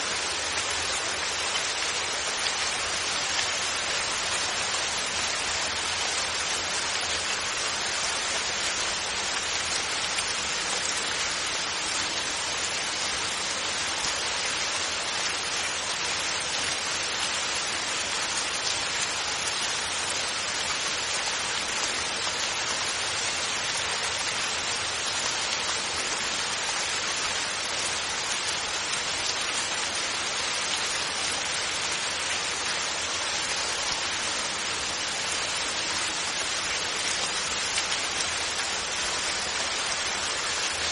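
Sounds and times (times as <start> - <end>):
rain hissing: 0.0 - 40.9.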